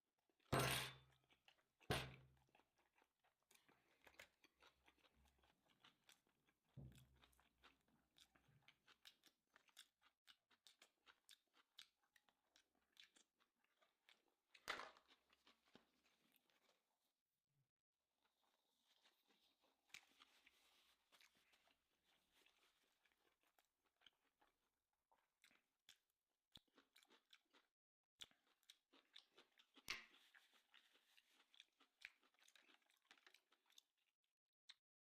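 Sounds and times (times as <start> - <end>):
chewing with wet mouth clicks: 1.1 - 16.8, 18.4 - 34.9.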